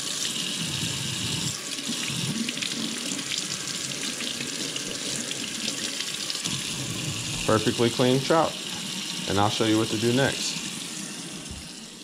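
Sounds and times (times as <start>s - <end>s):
faucet water splashing in sink: 0.0s - 12.0s.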